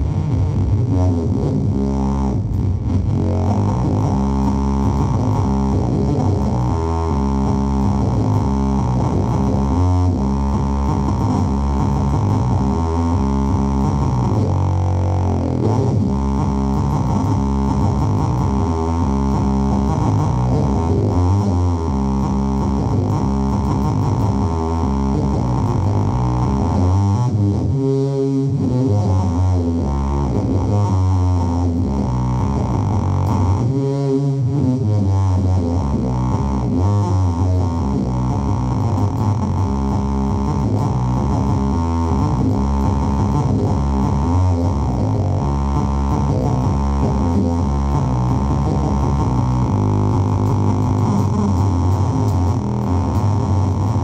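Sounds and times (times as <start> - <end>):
distorted electric bass drone: 0.0 - 54.0.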